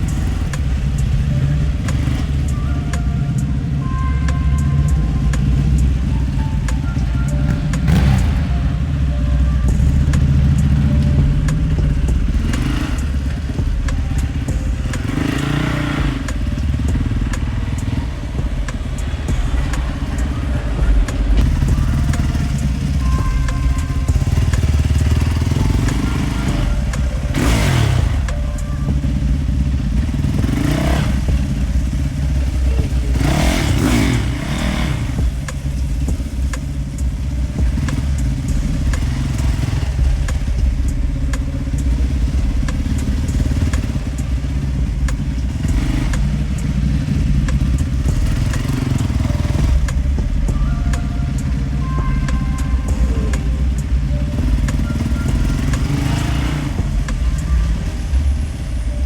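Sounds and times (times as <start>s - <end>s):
low traffic rumble: 0.0s - 59.0s
vehicles passing by: 0.0s - 59.0s.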